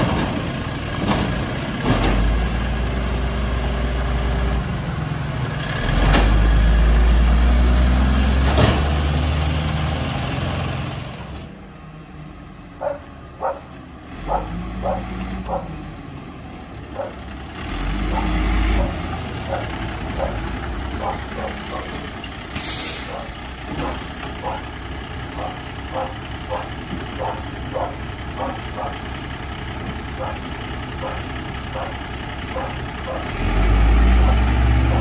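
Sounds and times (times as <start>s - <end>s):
garbage truck engine drone: 0.0s - 35.0s.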